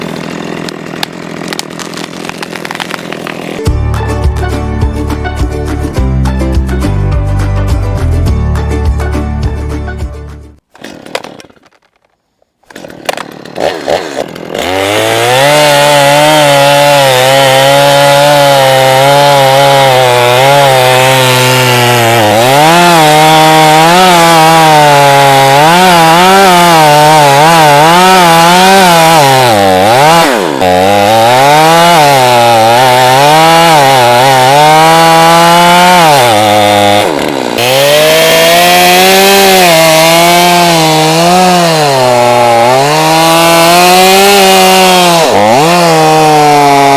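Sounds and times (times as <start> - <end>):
chainsaw cutting wood: 0.0 - 4.0, 10.6 - 46.9.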